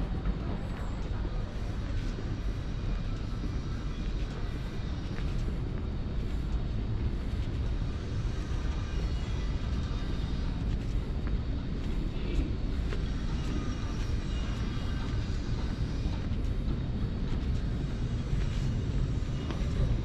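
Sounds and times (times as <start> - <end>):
footsteps on stone floor: 0.0 - 20.0.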